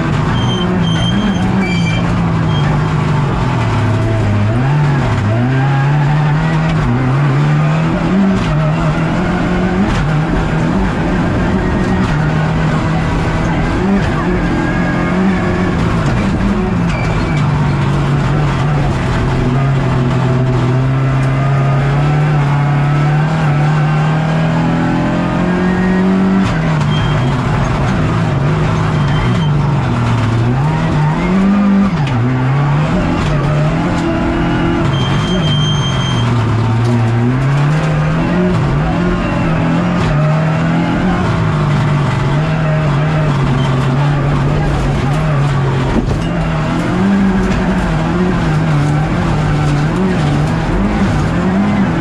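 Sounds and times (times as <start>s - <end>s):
rally car engine: 0.0s - 52.0s
road and tyre noise: 0.0s - 52.0s.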